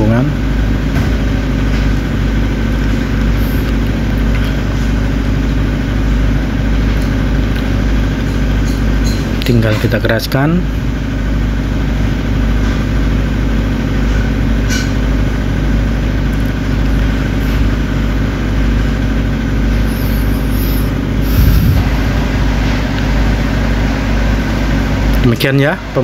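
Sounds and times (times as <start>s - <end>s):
low machinery drone: 0.0s - 26.0s.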